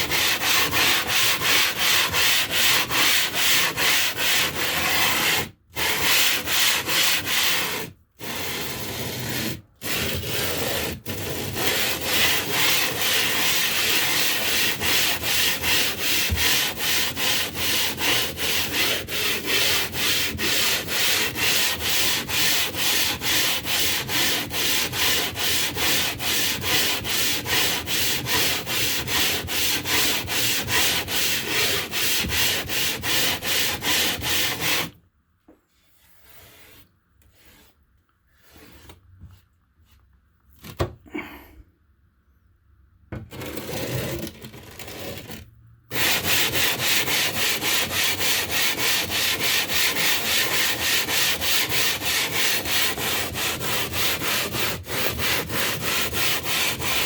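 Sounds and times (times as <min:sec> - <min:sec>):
stone rubbing back and forth: 0:00.0 - 0:34.9, 0:43.3 - 0:57.0.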